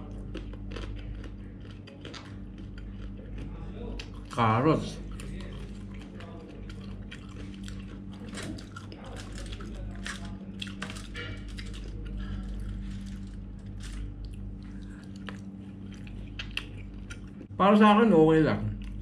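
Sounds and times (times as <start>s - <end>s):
person chewing: 0.0s - 17.6s, 18.8s - 19.0s
steady low hum: 0.0s - 19.0s.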